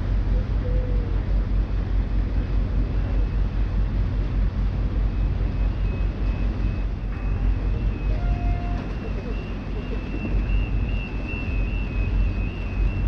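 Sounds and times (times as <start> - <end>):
boat engine droning: 0.0 - 13.0
rush of water wash: 0.0 - 13.0.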